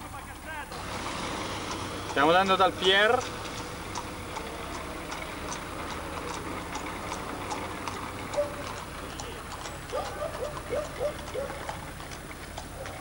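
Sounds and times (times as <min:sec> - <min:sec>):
horse hooves on paved road: 0:00.0 - 0:13.0
vehicle hum: 0:00.0 - 0:13.0.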